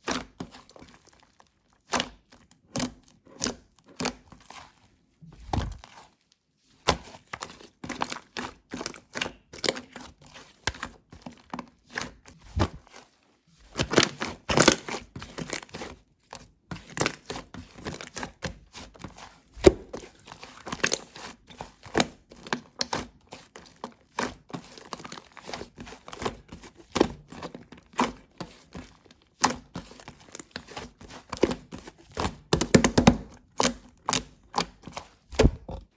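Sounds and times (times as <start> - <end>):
hands squishing slime: 0.0 - 35.9.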